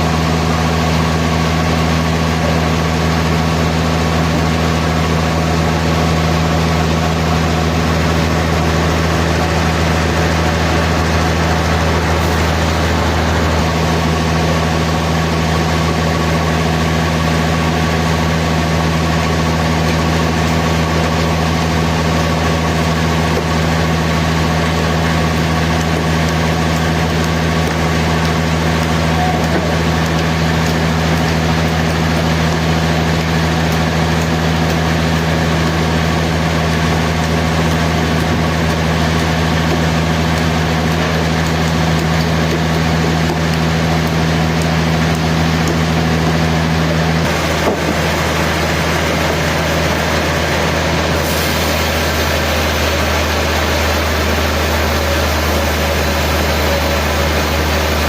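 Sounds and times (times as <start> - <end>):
machinery motor humming: 0.0 - 58.0.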